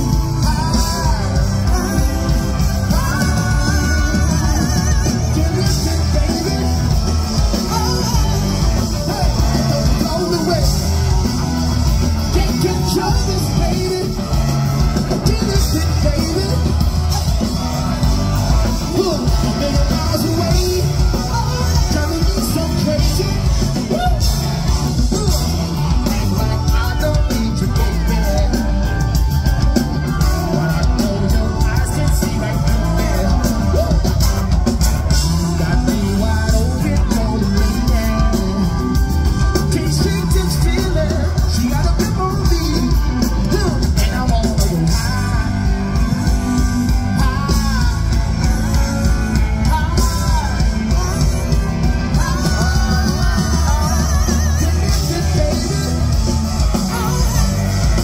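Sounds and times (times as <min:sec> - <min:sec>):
bass guitar: 0:00.0 - 0:58.0
electric guitars: 0:00.0 - 0:58.0
people singing: 0:00.0 - 0:58.0.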